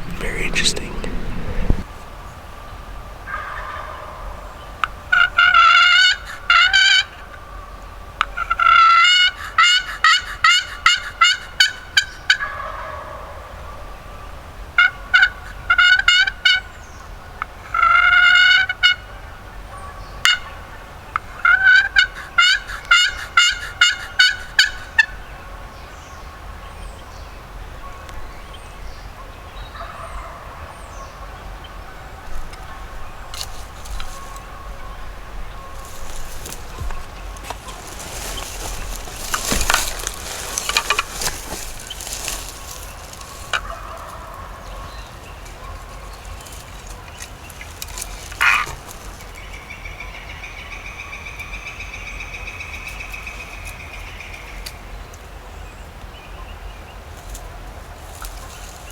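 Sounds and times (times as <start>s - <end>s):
wild turkey calling: 0.0s - 55.0s.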